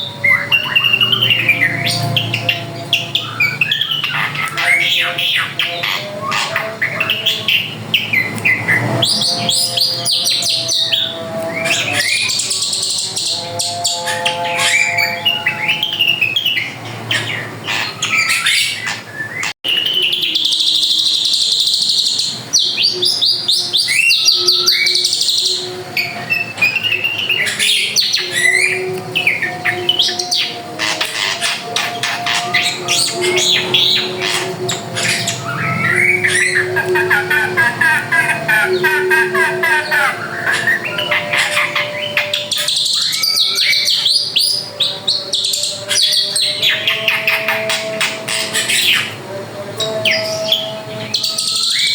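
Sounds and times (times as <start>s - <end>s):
bird singing: 0.0s - 51.9s.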